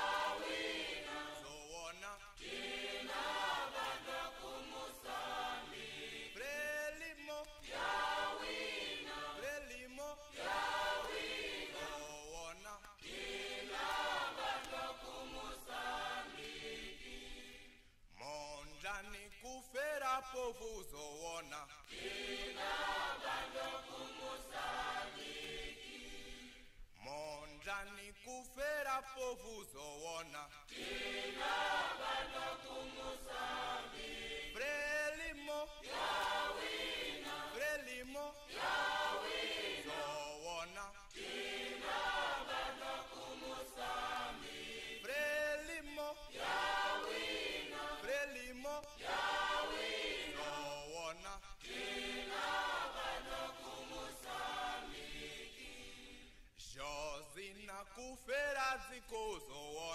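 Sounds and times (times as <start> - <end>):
voices singing a chant: 0.0 - 59.9.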